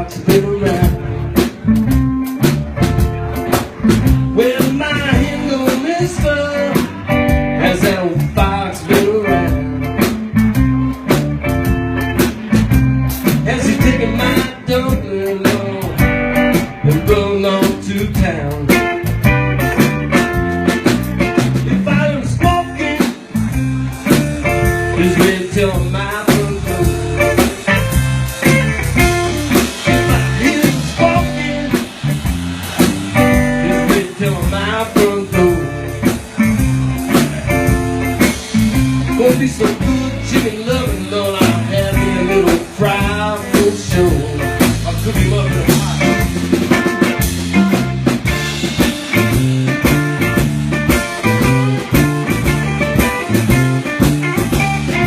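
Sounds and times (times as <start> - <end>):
drum kit beat: 0.0 - 55.0
guitar lead with bending notes: 0.0 - 55.0.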